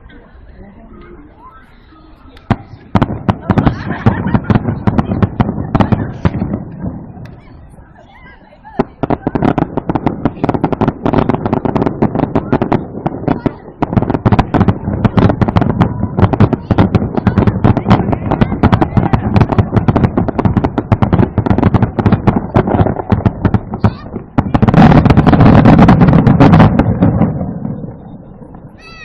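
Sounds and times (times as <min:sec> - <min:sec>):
fireworks bangs and crackles: 0:02.2 - 0:29.0.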